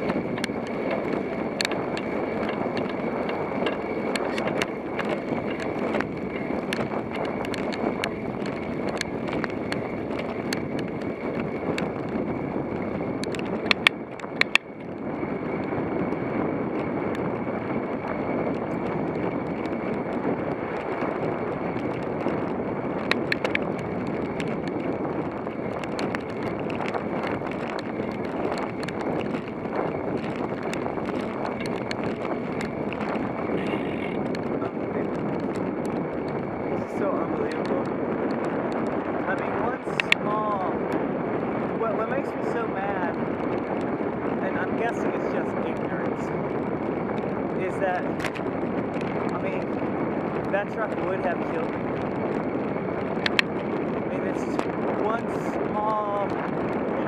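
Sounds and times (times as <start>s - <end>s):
small bicycle clicks: 0.0s - 16.1s, 17.9s - 42.2s, 45.6s - 57.0s
wind rush and road noise: 0.0s - 57.0s.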